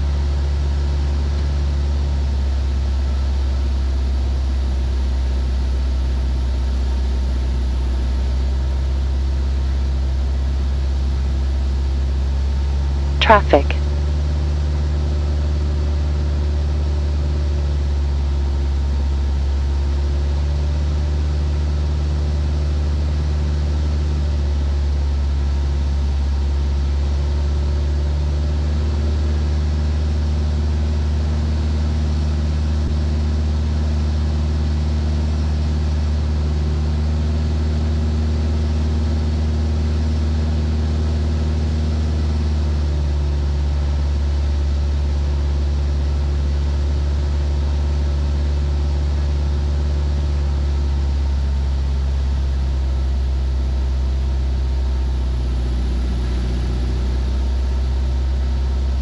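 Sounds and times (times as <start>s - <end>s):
airplane engine and propeller drone: 0.0s - 59.0s.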